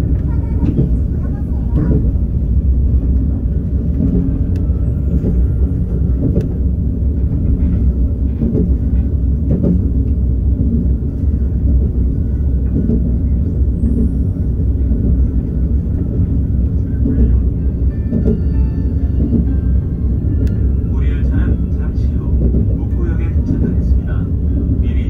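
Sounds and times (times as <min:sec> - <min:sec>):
train interior rumble: 0:00.0 - 0:25.0.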